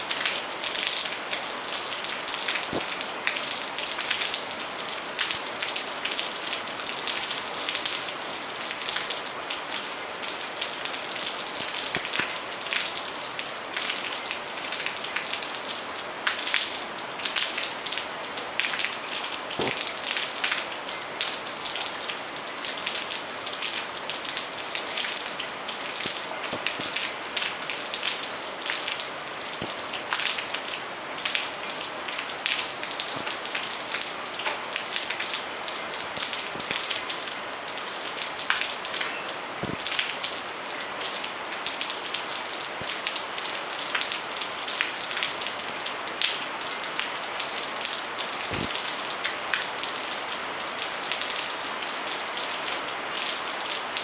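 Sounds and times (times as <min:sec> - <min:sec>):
rain pattering on hard surfaces: 0:00.0 - 0:54.0.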